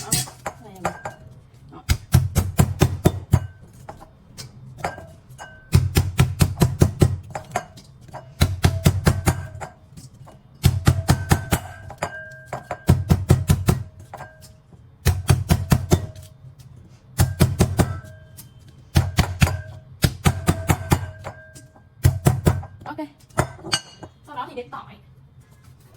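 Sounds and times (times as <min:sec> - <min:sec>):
pestle pounding in mortar: 0:00.0 - 0:04.1, 0:04.8 - 0:16.3, 0:17.1 - 0:24.2.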